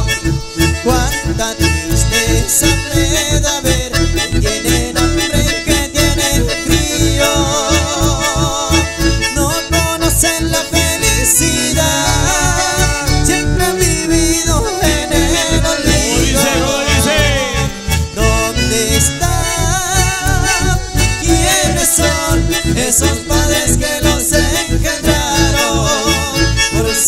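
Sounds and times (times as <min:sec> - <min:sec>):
accordion melody: 0:00.0 - 0:27.0
pulsing bass beat: 0:00.0 - 0:27.0
strummed acoustic guitar: 0:00.0 - 0:27.0.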